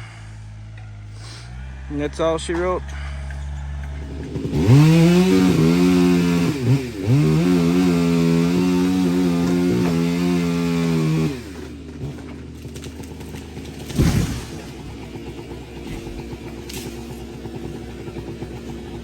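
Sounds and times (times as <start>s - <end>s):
chainsaw revving: 1.2s - 19.0s.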